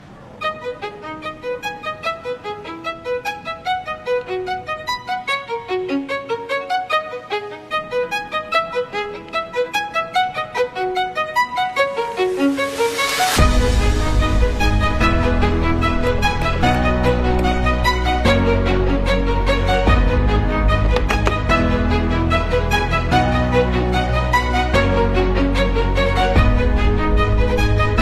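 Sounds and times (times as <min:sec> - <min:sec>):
brisk violin-like melody: 0:00.0 - 0:28.0.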